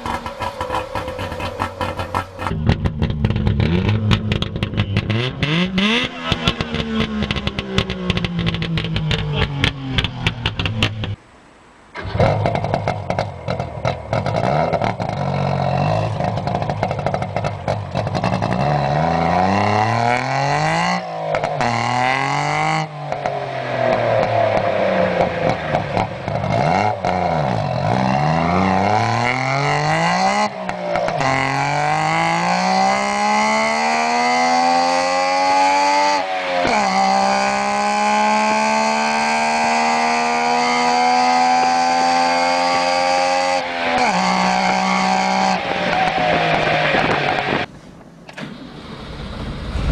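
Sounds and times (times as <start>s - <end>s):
car engine revving: 0.0s - 11.2s, 12.0s - 47.7s.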